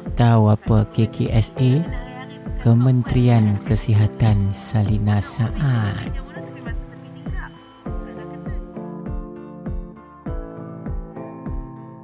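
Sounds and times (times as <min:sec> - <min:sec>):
background music with deep beat: 0:00.0 - 0:12.0.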